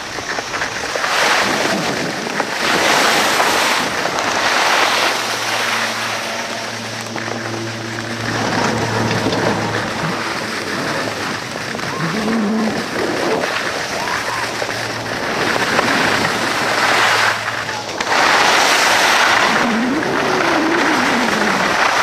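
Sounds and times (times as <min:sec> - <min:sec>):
skis scraping over snow: 0:00.0 - 0:22.0
wind rushing over microphone: 0:00.0 - 0:22.0
steady low hum: 0:02.4 - 0:20.2.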